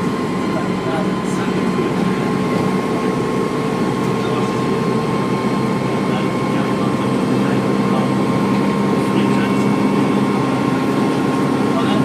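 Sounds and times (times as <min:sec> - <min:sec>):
bus engine running: 0:00.0 - 0:12.0
high turbo whine: 0:00.0 - 0:12.0.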